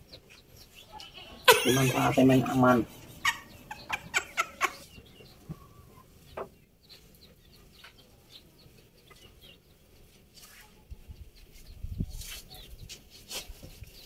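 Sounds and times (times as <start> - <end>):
faint chicken clucks: 0.0 - 14.0.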